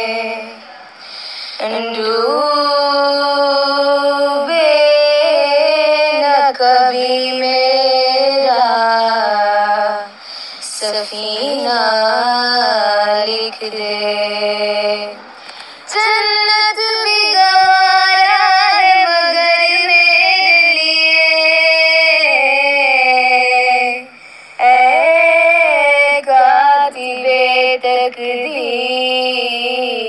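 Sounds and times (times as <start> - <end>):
woman singing slow melody: 0.0 - 30.0.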